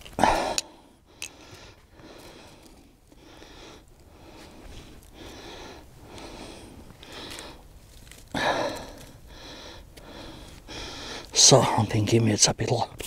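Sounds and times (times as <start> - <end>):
man breathing: 0.1 - 11.4.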